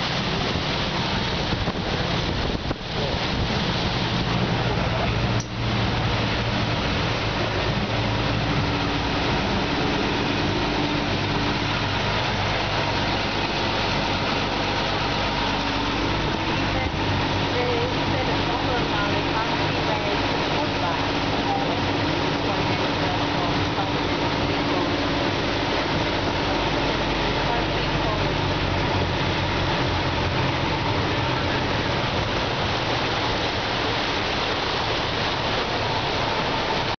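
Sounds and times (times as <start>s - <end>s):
bus engine droning: 0.0s - 37.0s
water rushing and splashing: 0.0s - 37.0s.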